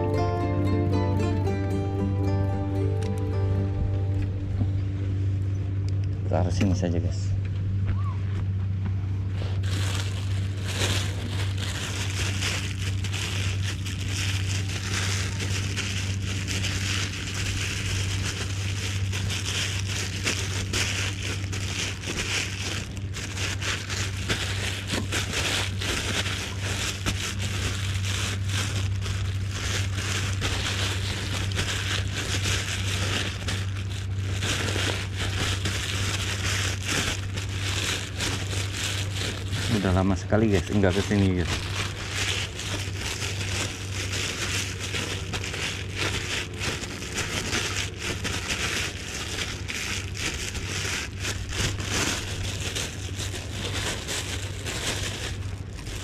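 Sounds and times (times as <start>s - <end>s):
low hum: 0.0s - 56.0s
plastic bag crinkling: 9.2s - 56.0s.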